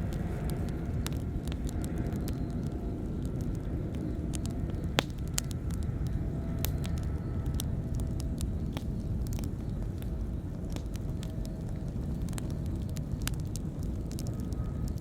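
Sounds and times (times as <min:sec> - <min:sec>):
campfire crackling and popping: 0:00.0 - 0:15.0
low rumble of fire: 0:00.0 - 0:15.0.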